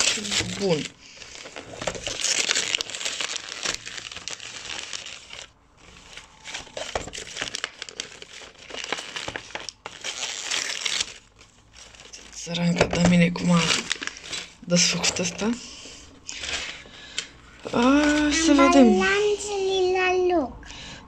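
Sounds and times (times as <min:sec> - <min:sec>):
wrapping paper crumpling and tearing: 0:00.0 - 0:19.4.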